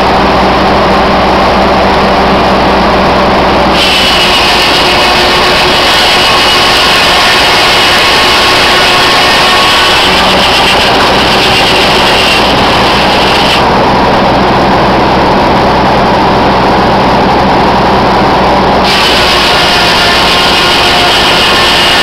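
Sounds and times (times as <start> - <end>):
sawmill mechanical drone: 0.0 - 22.0.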